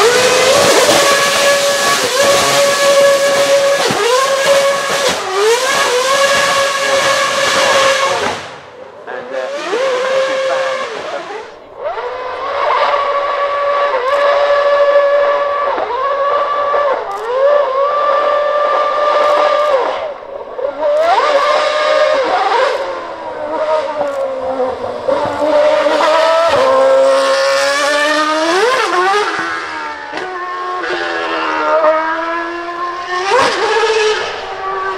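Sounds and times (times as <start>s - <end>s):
racing car accelerating through gears: 0.0s - 34.9s
racing car engine high pitch: 0.0s - 34.9s.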